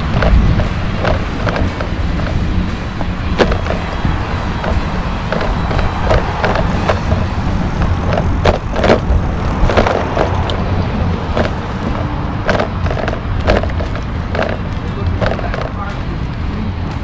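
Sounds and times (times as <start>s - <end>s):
bicycle clicks and rattles: 0.0s - 17.0s
tyres rumbling on pavement: 0.0s - 17.0s.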